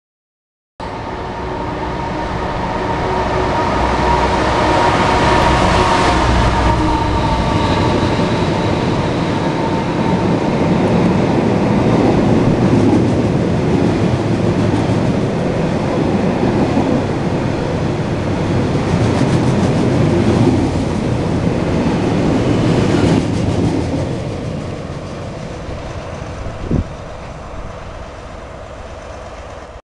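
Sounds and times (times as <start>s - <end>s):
diesel locomotive engine: 0.8s - 29.8s.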